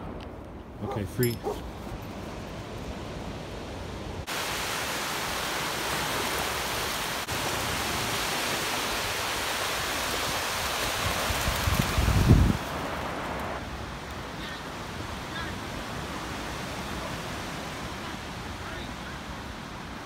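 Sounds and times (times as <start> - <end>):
small waves washing on beach: 3.6 - 20.0.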